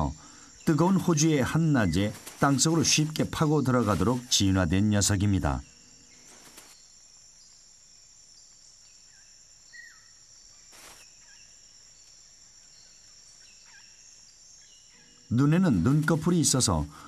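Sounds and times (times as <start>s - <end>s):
insect trilling drone: 0.0s - 17.0s.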